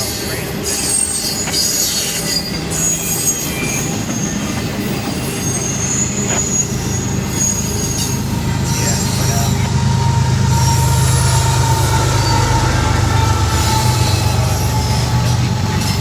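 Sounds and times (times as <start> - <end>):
freight train rumbling on rails: 0.0 - 16.0
high-pitched wheel squeal: 0.3 - 16.0.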